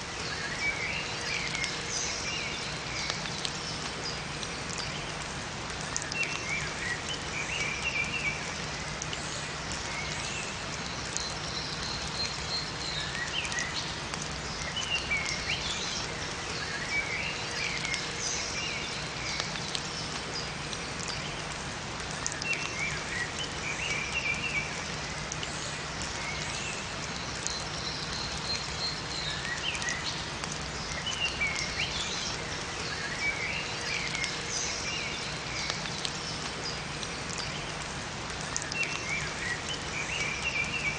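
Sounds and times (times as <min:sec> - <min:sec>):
steady rain in a forest: 0:00.0 - 0:40.9
songbirds chirping: 0:00.1 - 0:40.9.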